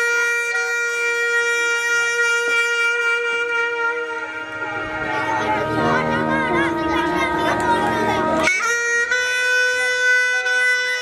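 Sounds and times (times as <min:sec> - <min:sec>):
clarinet notes: 0:00.0 - 0:11.0.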